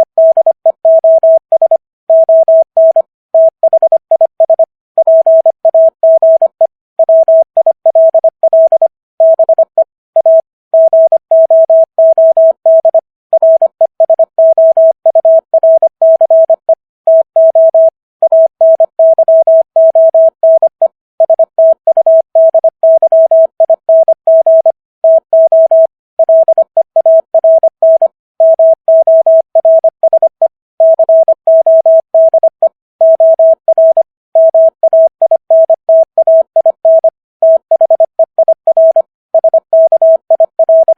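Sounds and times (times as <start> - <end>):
morse code tone: 0.0 - 40.9.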